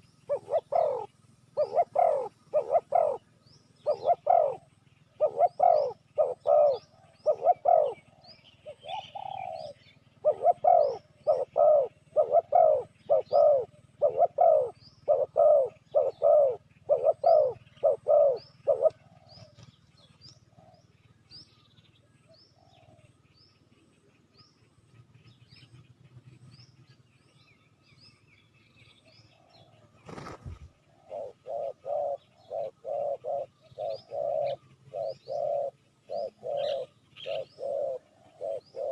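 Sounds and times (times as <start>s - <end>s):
dove cooing: 0.0s - 21.2s, 22.2s - 23.2s, 29.0s - 38.9s.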